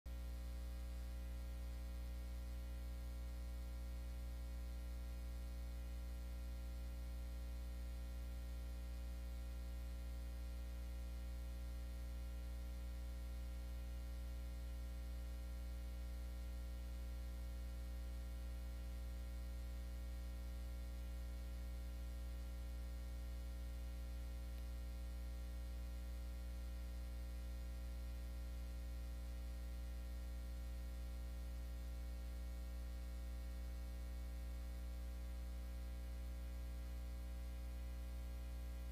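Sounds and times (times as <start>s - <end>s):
low electrical hum: 0.1s - 38.9s.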